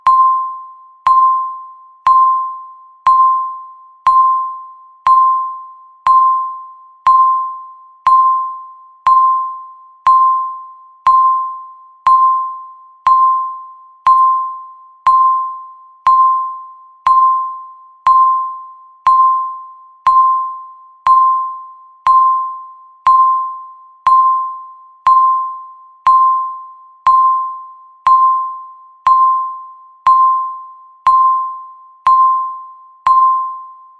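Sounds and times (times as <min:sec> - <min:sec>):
timer beeps: 0:00.0 - 0:33.9.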